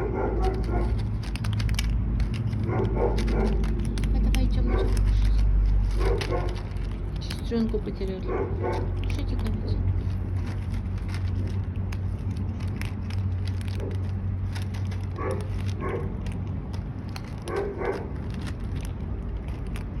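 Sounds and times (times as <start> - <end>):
kittens eating crunchily: 0.0 - 20.0.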